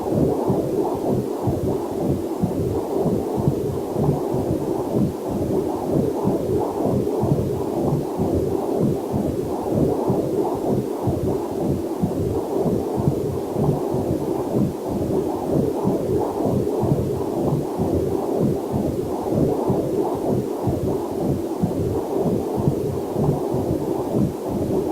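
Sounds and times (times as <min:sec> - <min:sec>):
fetal heartbeat whooshing pulse: 0:00.0 - 0:24.9.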